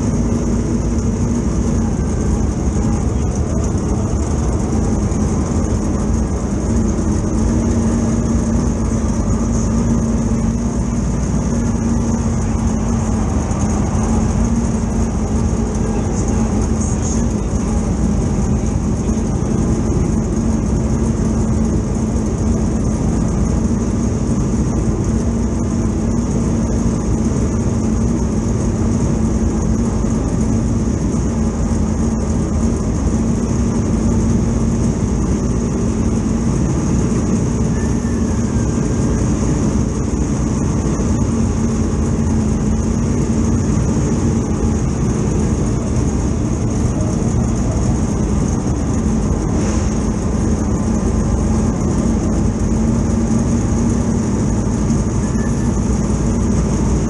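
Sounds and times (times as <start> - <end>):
car engine running: 0.0 - 57.0
high whine: 0.0 - 57.0.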